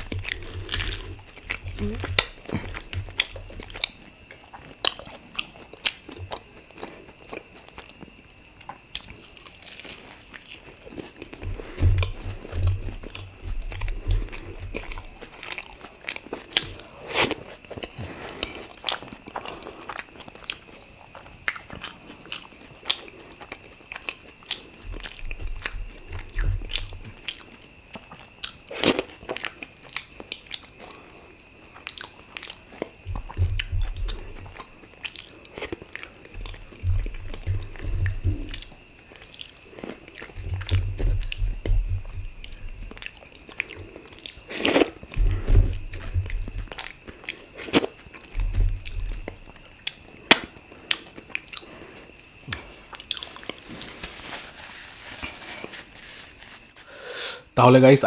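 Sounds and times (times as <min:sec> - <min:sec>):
close-miked eating and chewing: 0:00.0 - 0:56.9.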